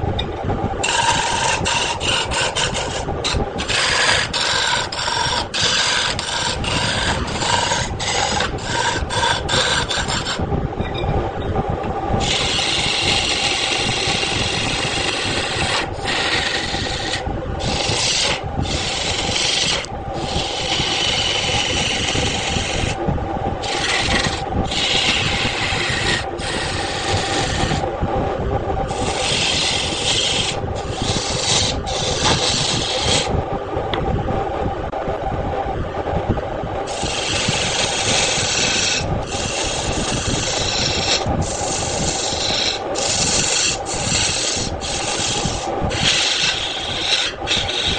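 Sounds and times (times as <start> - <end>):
wood lathe humming: 0.0 - 10.4, 12.2 - 23.0, 23.6 - 27.9, 28.9 - 33.4, 36.8 - 47.9
tool scraping spinning wood: 0.0 - 11.4, 12.1 - 28.0, 28.7 - 34.0, 36.8 - 47.9.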